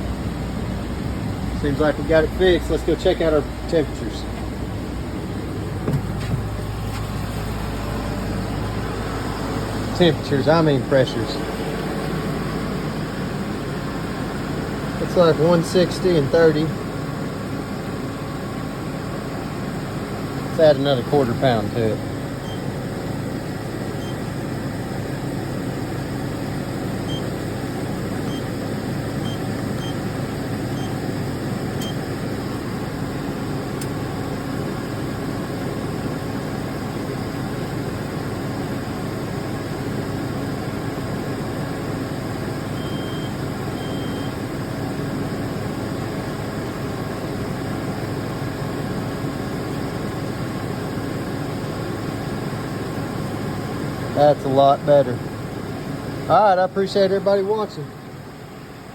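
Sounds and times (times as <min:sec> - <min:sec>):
van engine and air conditioning hum: 0:00.0 - 0:58.9.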